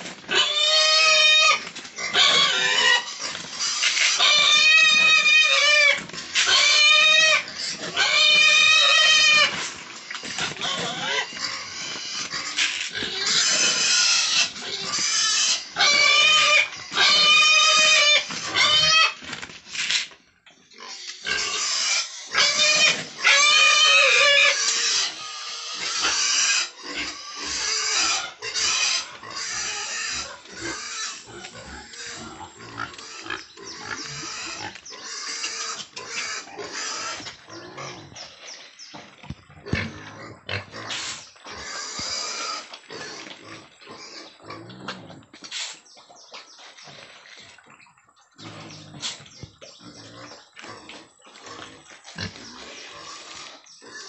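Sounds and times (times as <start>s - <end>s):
pigs squealing: 0.0s - 45.8s, 48.4s - 54.0s.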